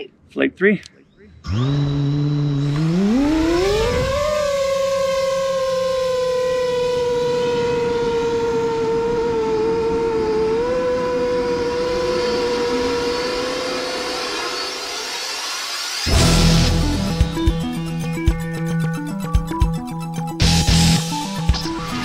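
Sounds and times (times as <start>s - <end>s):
drone propellers whining: 1.3s - 22.0s.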